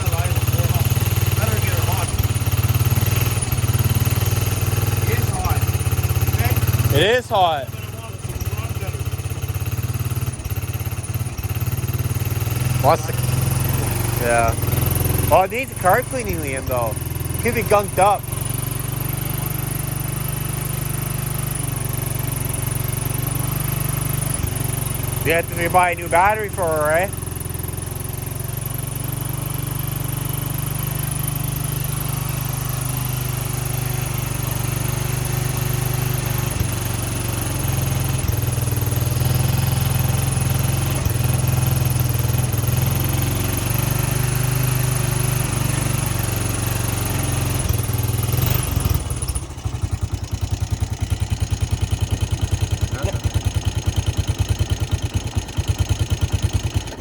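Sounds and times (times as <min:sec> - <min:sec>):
atv engine running: 0:00.0 - 0:57.0
engine pulsing idle: 0:00.0 - 0:57.0.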